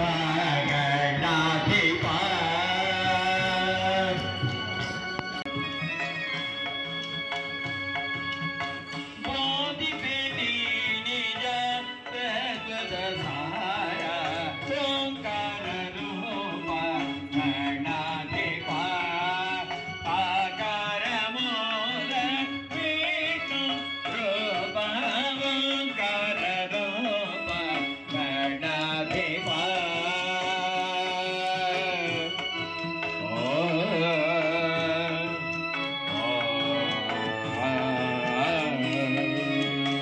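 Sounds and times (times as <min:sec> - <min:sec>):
devotional song over loudspeaker: 0:00.0 - 0:40.0
hand drum percussion: 0:00.0 - 0:40.0.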